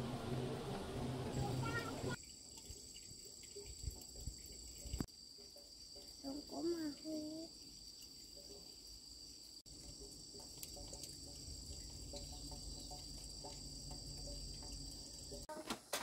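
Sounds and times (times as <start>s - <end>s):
high-pitched insect chorus: 2.1s - 15.5s.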